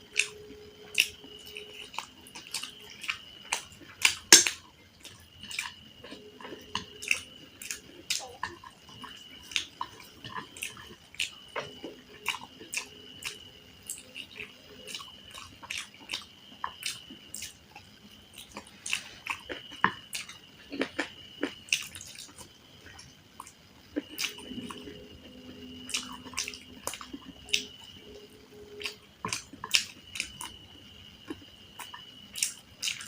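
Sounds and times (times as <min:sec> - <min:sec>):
wet chewing with mouth clicks: 0:00.1 - 0:33.0.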